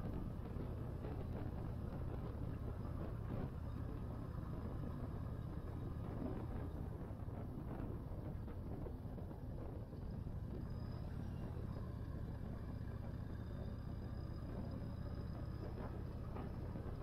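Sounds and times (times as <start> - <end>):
motorcycle engine drone: 0.0 - 17.0
road and wind noise: 0.0 - 17.0.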